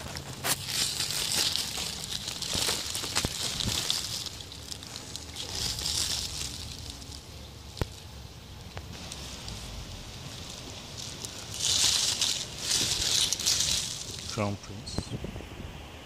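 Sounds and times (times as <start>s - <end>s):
leaves and stems rustling: 0.0s - 15.1s.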